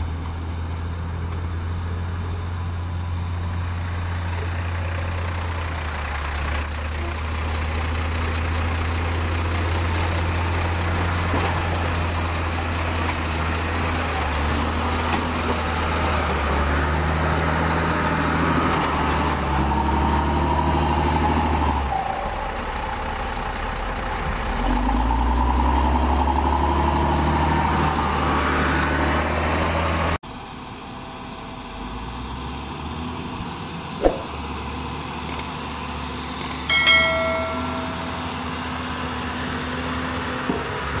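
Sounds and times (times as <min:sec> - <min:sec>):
diesel engine running: 0:00.0 - 0:41.0
road roller engine running: 0:00.0 - 0:41.0.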